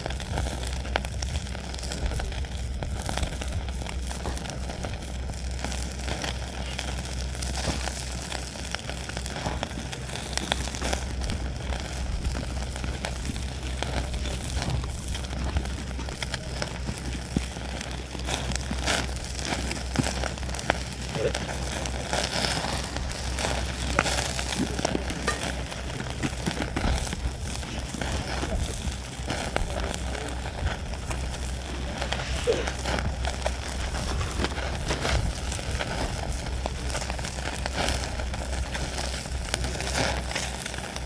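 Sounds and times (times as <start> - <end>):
campfire crackling and popping: 0.0 - 41.0
low steady hum: 0.0 - 41.0.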